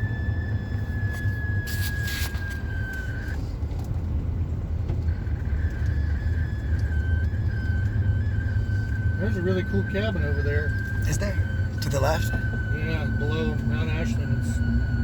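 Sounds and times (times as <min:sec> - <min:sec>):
high-pitched whine: 0:00.0 - 0:15.0
road and engine rumble: 0:00.0 - 0:15.0.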